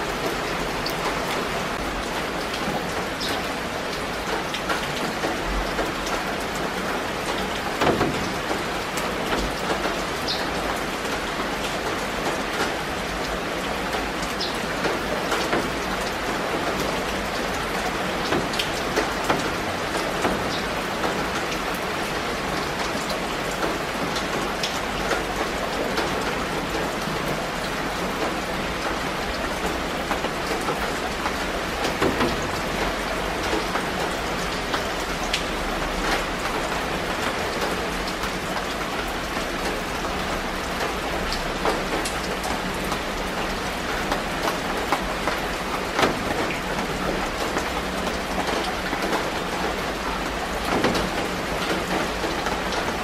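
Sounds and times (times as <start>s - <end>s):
rain on leaves: 0.0s - 53.0s.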